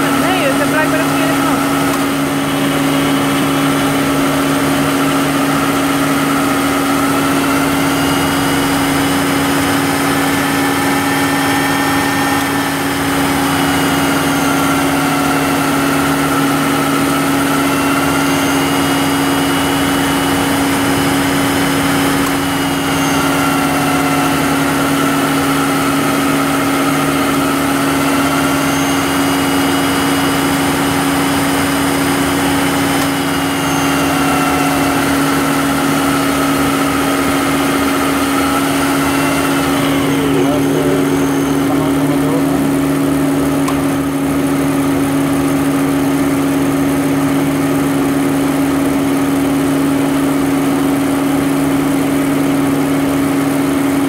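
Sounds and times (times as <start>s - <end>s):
car engine idling hum and whine: 0.0s - 54.0s.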